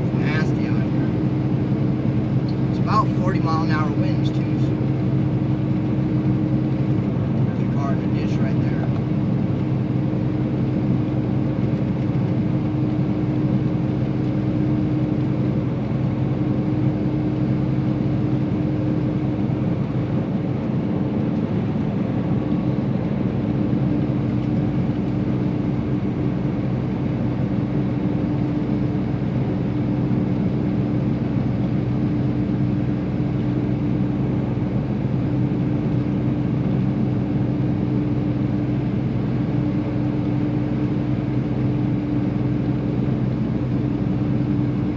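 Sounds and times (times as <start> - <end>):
diesel engine drone: 0.0 - 44.9
road noise: 0.0 - 44.9.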